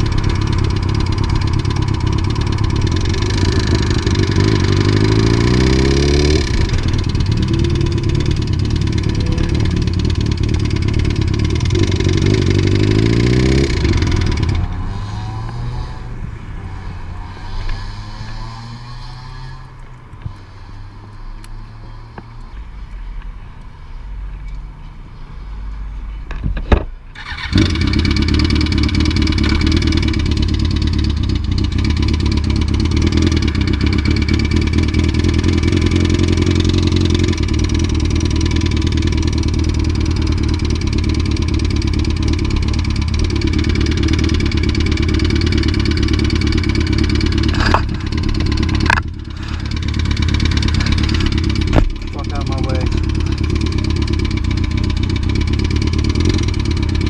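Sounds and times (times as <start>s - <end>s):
motorcycle engine running: 0.0s - 16.6s, 27.2s - 57.0s.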